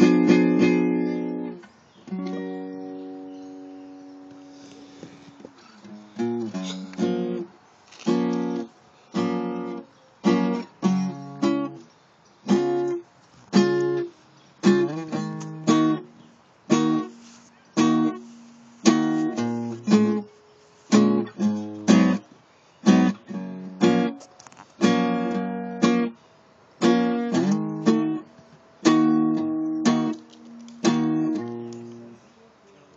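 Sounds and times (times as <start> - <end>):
acoustic guitar choppy chords: 0.0 - 3.3, 5.8 - 7.5, 8.1 - 11.8, 12.5 - 24.2, 24.8 - 26.2, 26.8 - 32.2.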